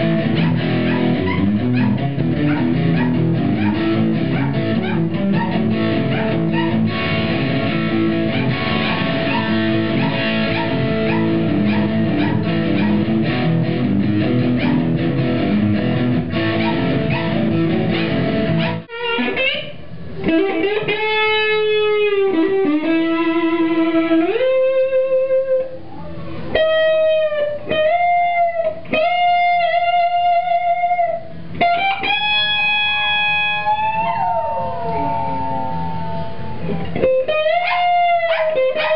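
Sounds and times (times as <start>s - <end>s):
bending guitar notes: 0.0s - 38.9s
rhythmic guitar chords: 0.0s - 38.9s.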